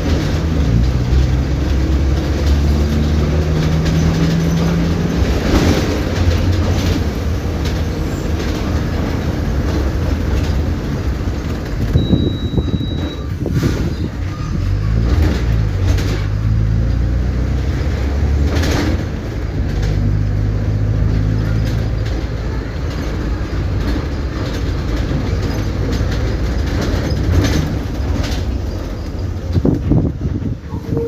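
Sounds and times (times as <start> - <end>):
knocks and rattles: 0.0 - 14.0, 14.9 - 17.0, 17.8 - 30.6
bus diesel engine running: 0.0 - 31.0.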